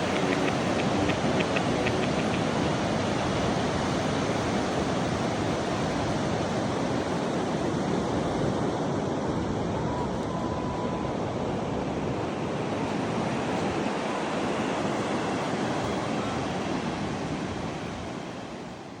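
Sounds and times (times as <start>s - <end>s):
waves breaking: 0.0s - 18.9s.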